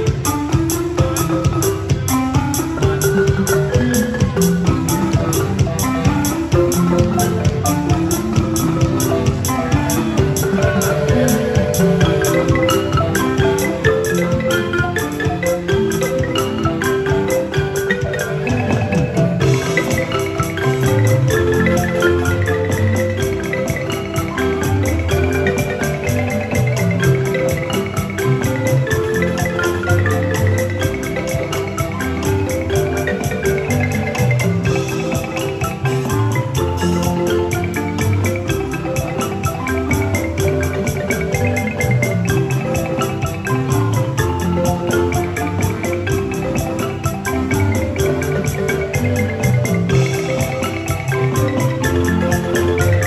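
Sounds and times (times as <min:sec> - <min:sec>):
marimba ensemble playing: 0:00.0 - 0:53.0.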